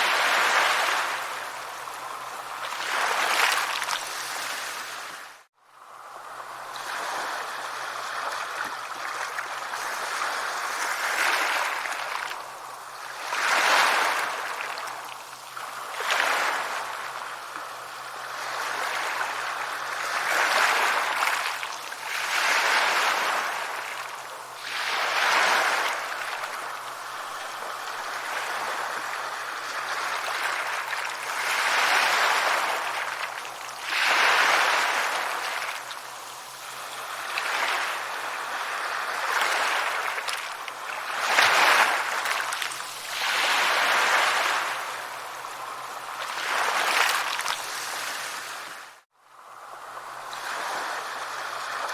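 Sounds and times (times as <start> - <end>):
sea waves breaking on shore: 0.0 - 51.9.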